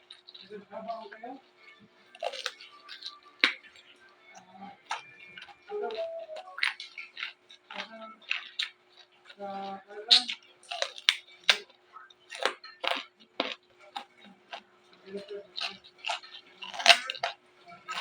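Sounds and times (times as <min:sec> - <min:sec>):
crunching raw vegetables: 0:00.0 - 0:18.0.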